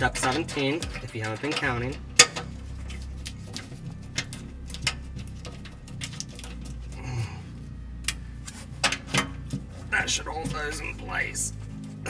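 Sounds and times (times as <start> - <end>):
fan humming: 0.0 - 12.0
tape crinkling on metal: 0.0 - 12.0.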